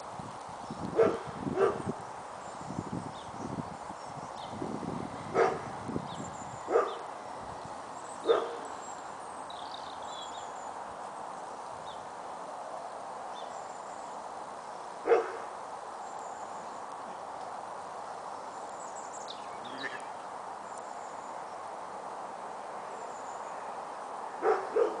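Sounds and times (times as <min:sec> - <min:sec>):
background hiss: 0:00.0 - 0:25.0.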